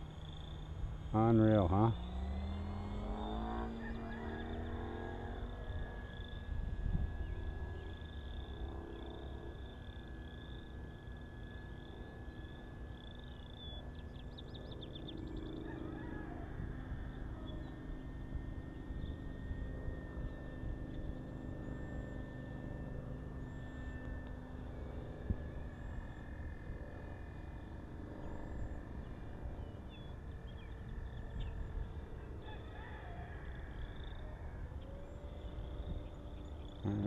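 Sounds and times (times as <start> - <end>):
electric motor whine: 0.0 - 37.0
low wind rumble: 0.0 - 37.0.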